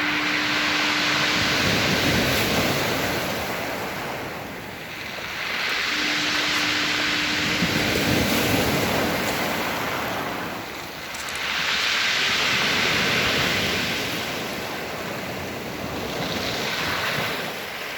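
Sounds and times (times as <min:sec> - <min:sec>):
sea surf breaking: 0:00.0 - 0:17.9
wind buffeting microphone: 0:00.0 - 0:17.9.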